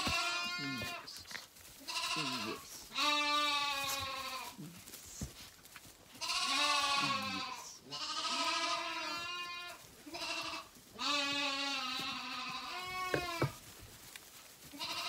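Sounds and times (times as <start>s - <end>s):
lambs bleating: 0.0s - 4.6s, 6.1s - 13.6s, 14.7s - 15.0s.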